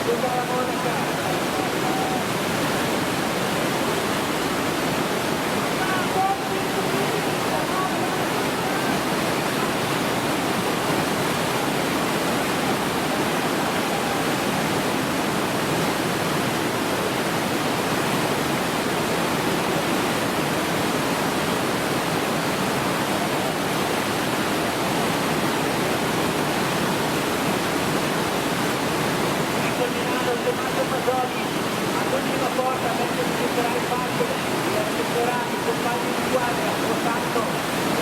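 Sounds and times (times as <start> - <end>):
whitewater rushing: 0.0 - 38.0.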